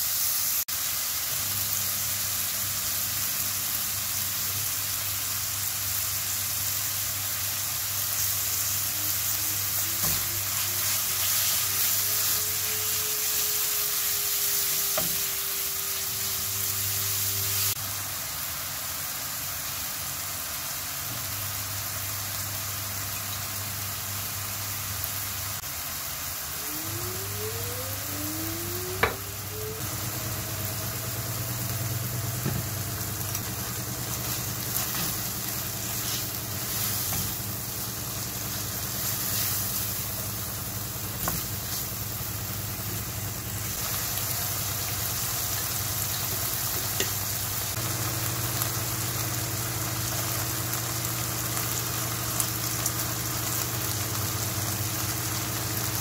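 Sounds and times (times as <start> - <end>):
meat and onion sizzling in a pan: 0.0 - 56.0.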